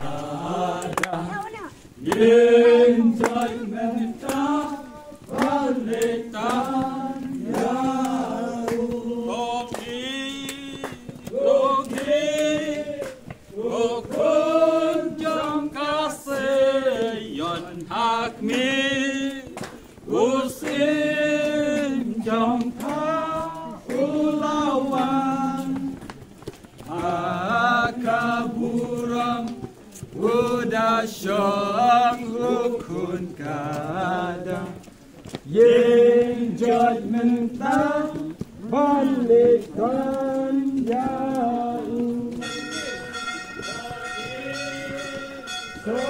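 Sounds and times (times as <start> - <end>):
group singing a hymn unaccompanied: 0.0 - 26.2, 26.8 - 43.0, 43.6 - 46.0.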